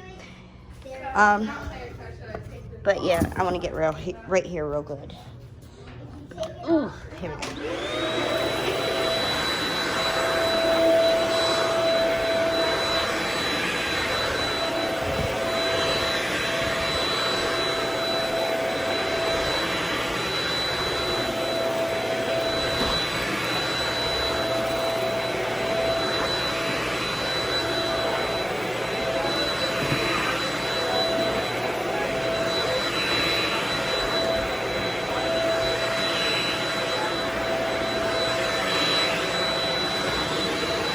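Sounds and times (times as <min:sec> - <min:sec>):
vacuum cleaner running: 0:00.2 - 0:04.0, 0:07.1 - 0:40.9.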